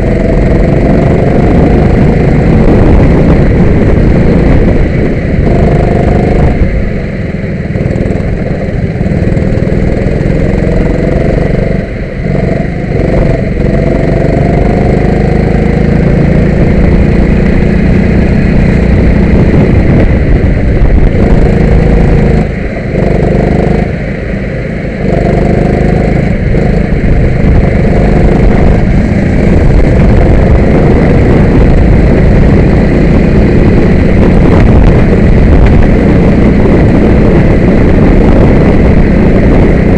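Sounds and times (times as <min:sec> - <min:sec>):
kart engine revving: 0:00.0 - 0:06.6, 0:07.8 - 0:39.9.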